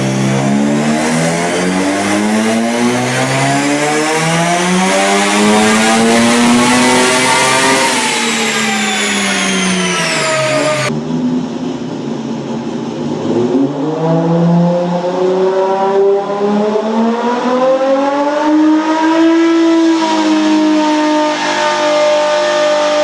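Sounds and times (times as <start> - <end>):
high turbo whine: 0.0 - 23.0
turbocharged engine under load: 0.0 - 23.0.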